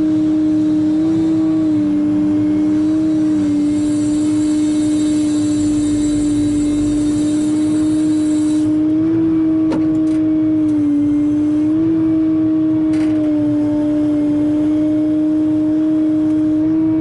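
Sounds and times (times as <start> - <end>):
excavator engine and hydraulics humming: 0.0 - 17.0.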